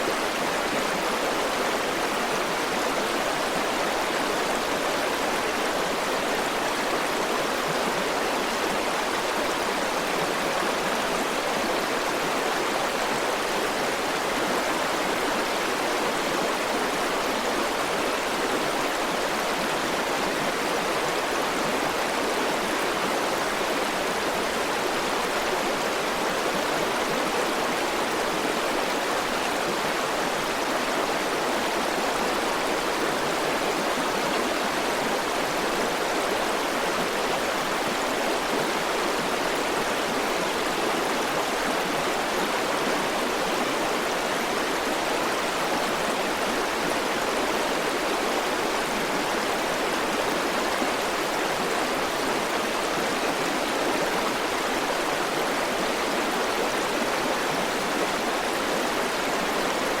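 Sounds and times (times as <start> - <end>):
river flowing over rocks: 0.0 - 60.0.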